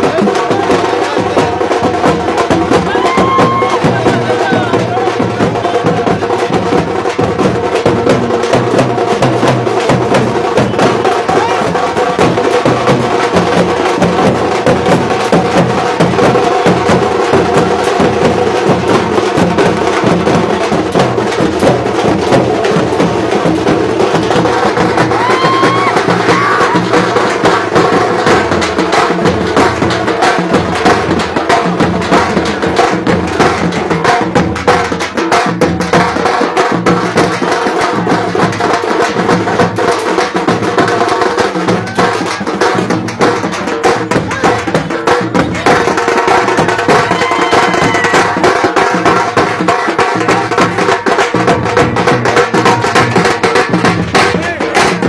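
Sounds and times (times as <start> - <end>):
crowd: 0.0 - 55.0
drum band beating fast rhythm: 0.0 - 55.0.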